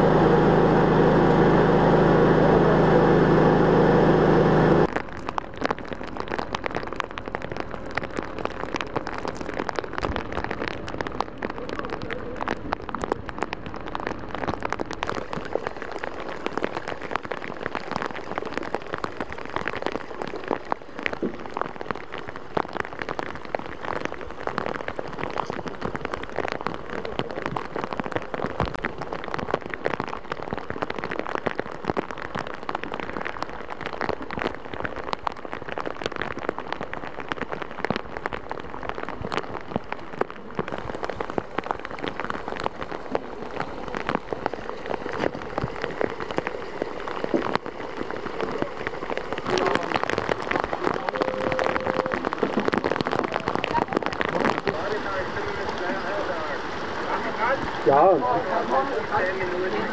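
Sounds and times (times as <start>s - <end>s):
heavy rain on hard surfaces: 0.0s - 59.9s.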